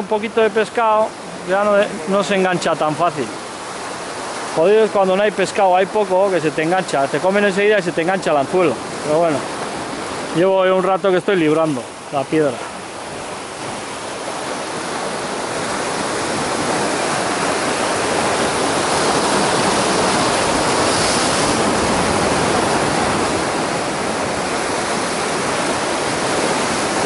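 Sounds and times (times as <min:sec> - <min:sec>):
surf breaking over rocks: 0:00.0 - 0:27.0.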